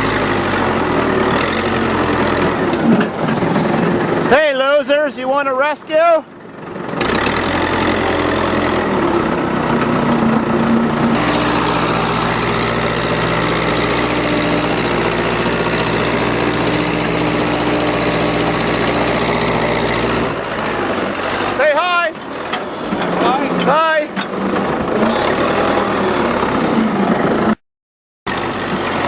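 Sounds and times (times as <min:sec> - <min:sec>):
tractor engine running: 0:00.0 - 0:27.6, 0:28.3 - 0:29.0.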